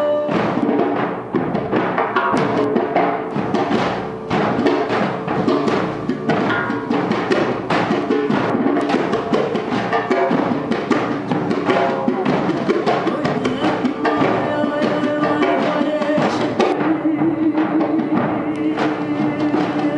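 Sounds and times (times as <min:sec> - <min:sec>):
folk band playing: 0:00.0 - 0:19.9
hand drum strokes: 0:00.0 - 0:19.9.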